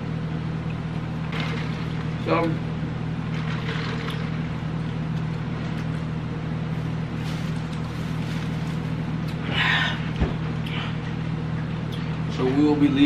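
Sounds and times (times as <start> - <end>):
steady low electrical hum: 0.0 - 13.0.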